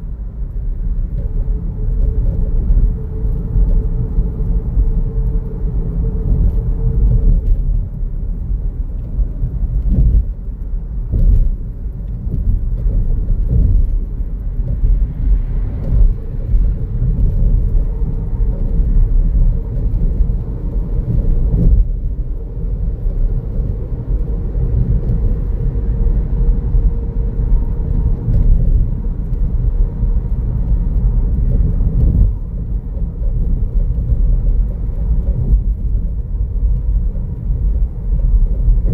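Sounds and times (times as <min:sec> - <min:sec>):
tyre and engine rumble: 0:00.0 - 0:38.9.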